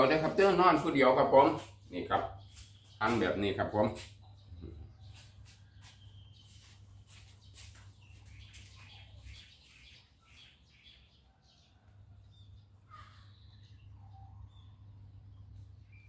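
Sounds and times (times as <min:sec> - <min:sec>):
faint bird chirps: 0:01.6 - 0:16.0.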